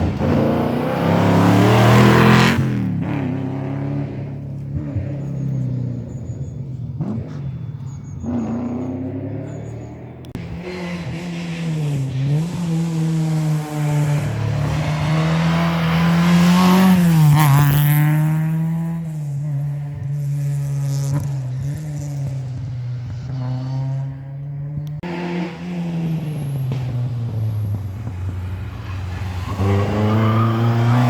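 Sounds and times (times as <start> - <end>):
car engine at high revs: 0.0 - 31.0
rally car engine revving: 0.0 - 31.0.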